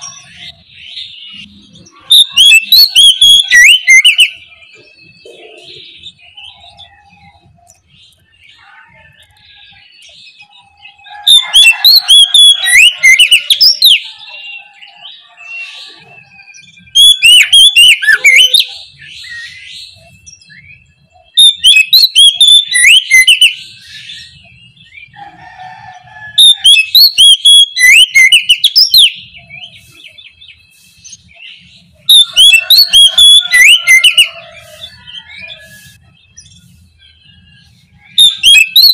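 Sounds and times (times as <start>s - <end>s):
bird singing whistles and trills: 0.0s - 25.2s, 26.4s - 38.9s.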